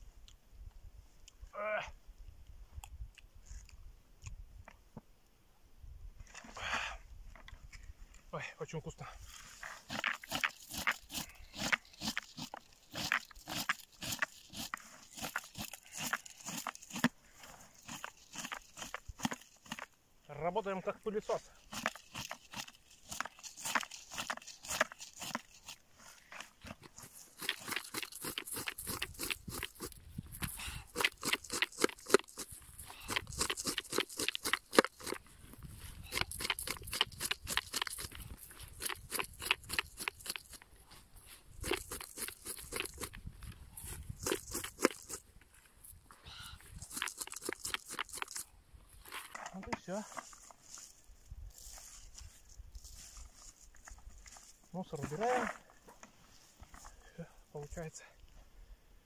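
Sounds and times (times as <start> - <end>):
shrubs and moss crunching: 6.2 - 57.9.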